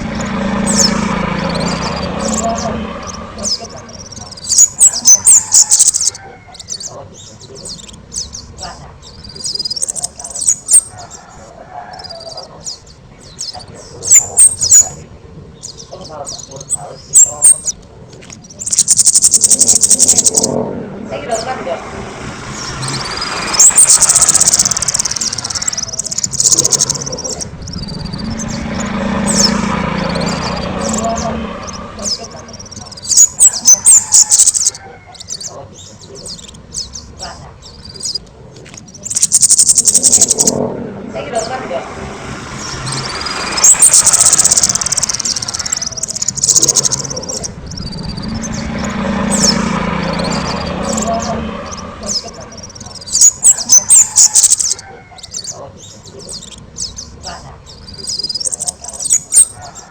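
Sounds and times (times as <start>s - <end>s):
songbird singing and trilling: 0.0s - 21.6s, 22.4s - 41.8s, 42.5s - 59.9s.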